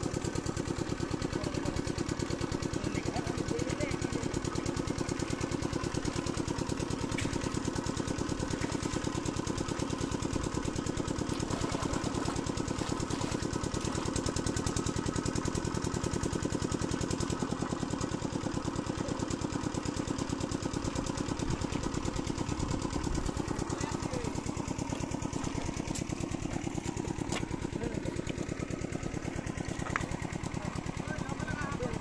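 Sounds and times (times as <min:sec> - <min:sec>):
small engine chugging steadily: 0:00.0 - 0:32.0.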